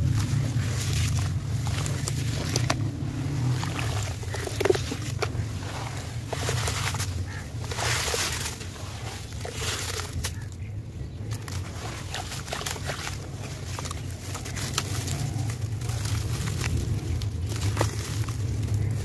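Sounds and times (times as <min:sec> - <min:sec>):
steady low hum: 0:00.0 - 0:19.0
wet charcoal crunching by hand: 0:00.0 - 0:19.0.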